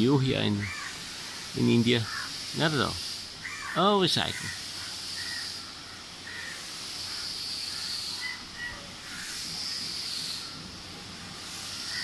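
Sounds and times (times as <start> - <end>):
high-pitched outdoor hiss: 0.0 - 12.0.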